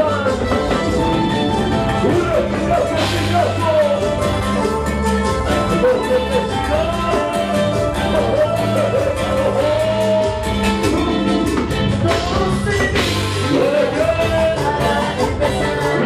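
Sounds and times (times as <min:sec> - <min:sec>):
live band playing dance music: 0:00.0 - 0:16.0
person singing: 0:00.0 - 0:16.0.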